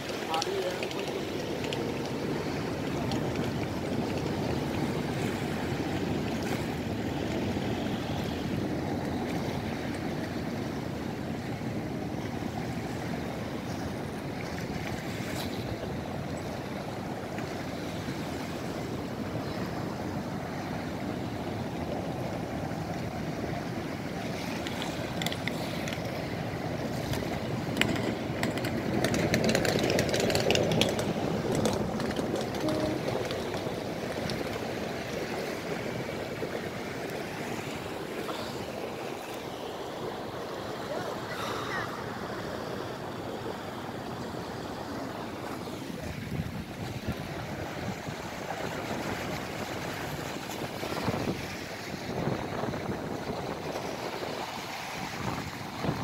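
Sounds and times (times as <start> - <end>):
river water washing against wall: 0.0 - 56.0.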